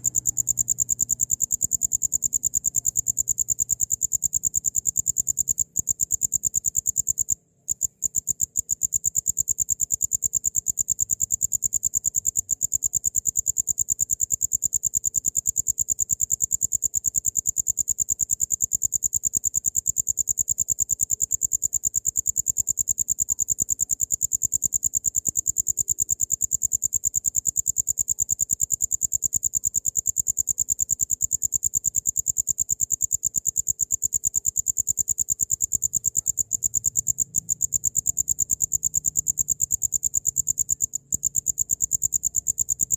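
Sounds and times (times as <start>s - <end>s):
cricket chirping: 0.0s - 42.9s.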